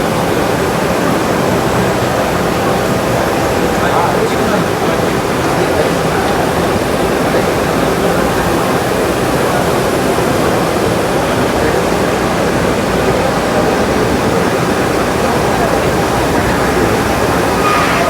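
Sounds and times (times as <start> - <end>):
busy exhibition hall din: 0.0 - 18.0.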